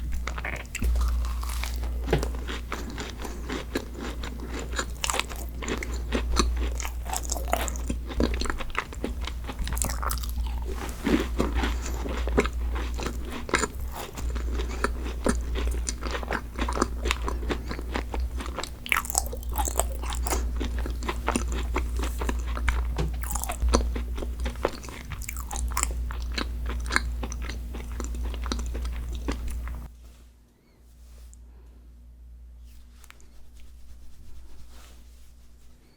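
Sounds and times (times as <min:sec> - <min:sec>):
crunchy chewing: 0:00.0 - 0:29.9
low steady hum: 0:00.0 - 0:35.9.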